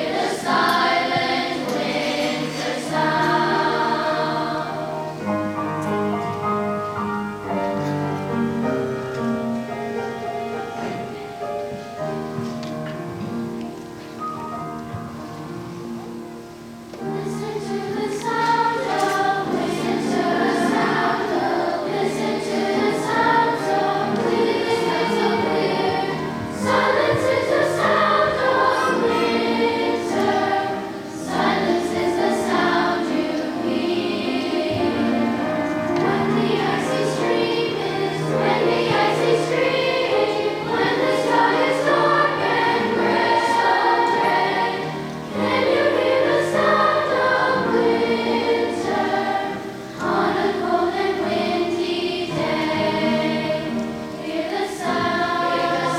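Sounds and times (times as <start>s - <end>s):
children's choir singing: 0.0s - 55.9s.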